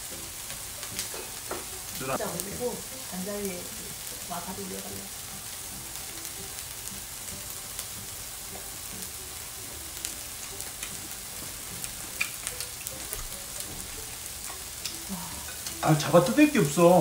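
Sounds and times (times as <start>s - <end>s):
meat sizzling on grill plate: 0.0s - 17.0s
small crackles and ticks: 0.0s - 17.0s.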